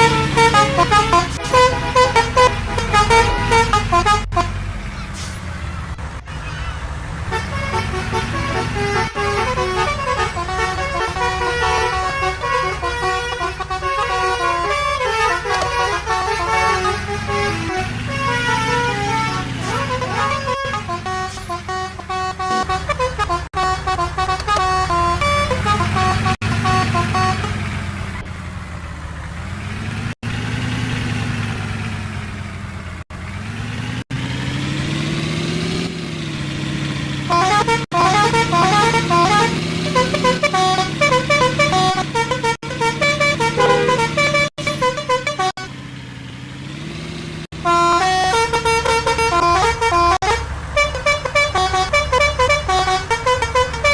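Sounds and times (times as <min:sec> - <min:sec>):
musical bus horns: 0:00.0 - 0:05.6, 0:06.3 - 0:28.3, 0:35.2 - 0:53.9
bus engine: 0:00.0 - 0:53.9.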